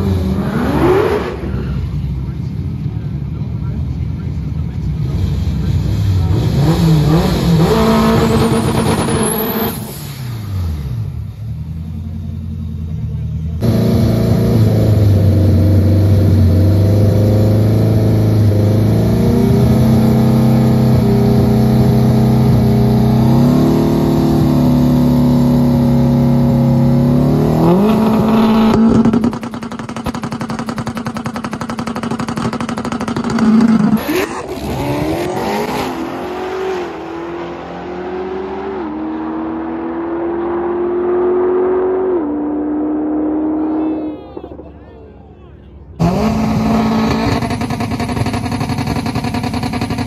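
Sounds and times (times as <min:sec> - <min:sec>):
drag car engine revving: 0:00.0 - 0:02.4, 0:04.5 - 0:11.2, 0:13.1 - 0:44.6, 0:46.0 - 0:50.0.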